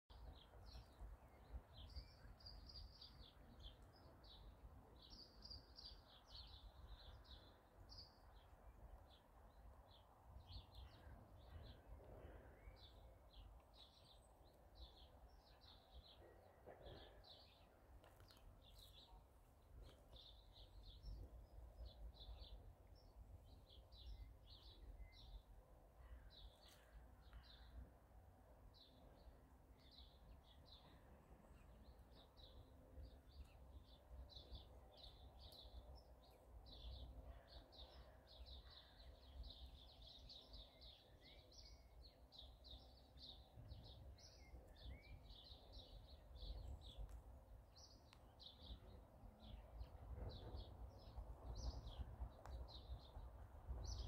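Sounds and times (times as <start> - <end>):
faint birds chirping: 0.1 - 54.0.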